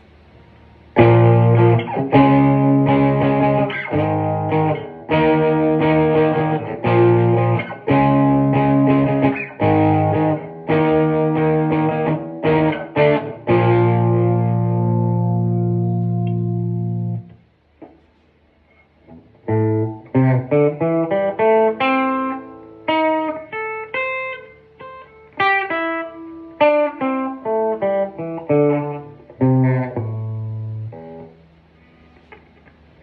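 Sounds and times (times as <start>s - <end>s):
electric guitar strummed chords: 0.8s - 17.4s, 19.1s - 32.9s.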